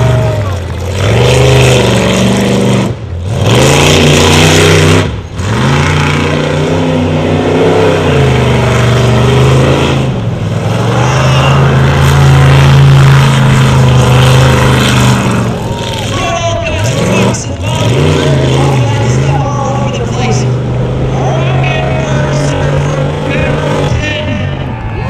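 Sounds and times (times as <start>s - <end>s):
truck engine at high revs: 0.0s - 25.0s.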